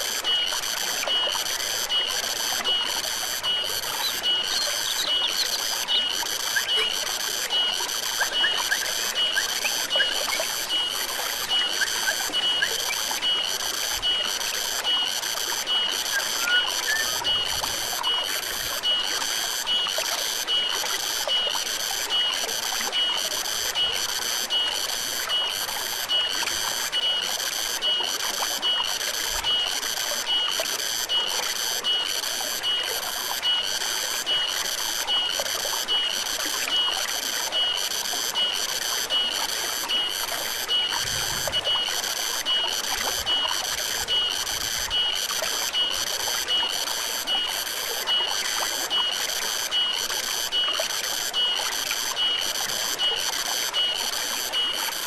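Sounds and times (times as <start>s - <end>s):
forest stream flowing: 0.0s - 55.0s
pulsing high-pitched insect call: 0.0s - 55.0s.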